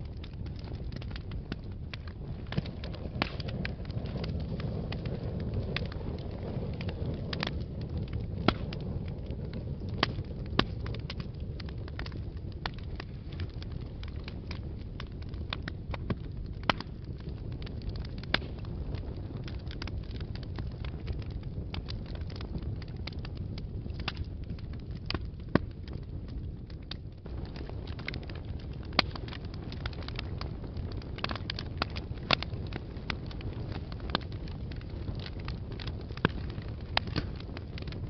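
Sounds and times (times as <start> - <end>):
fire crackling and popping: 0.0 - 38.0
fire flames rumbling: 0.0 - 38.0.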